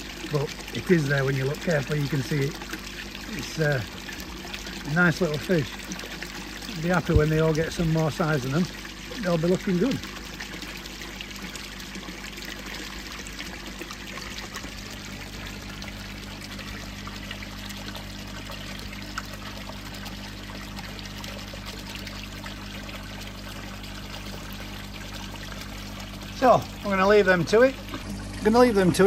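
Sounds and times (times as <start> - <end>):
water splashing into a pond: 0.0 - 29.0.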